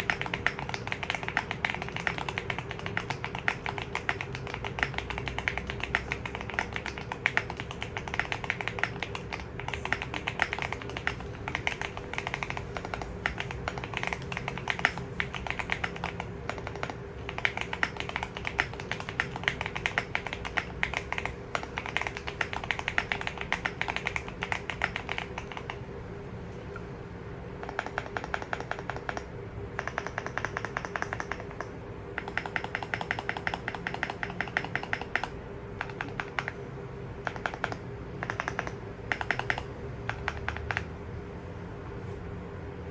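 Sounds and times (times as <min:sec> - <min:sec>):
mechanical keyboard typing: 0:00.0 - 0:25.8, 0:27.6 - 0:36.6, 0:37.2 - 0:41.0.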